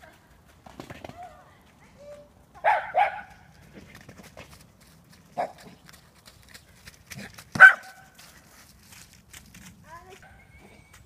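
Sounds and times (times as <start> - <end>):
faint footsteps on grass: 0.0 - 11.0.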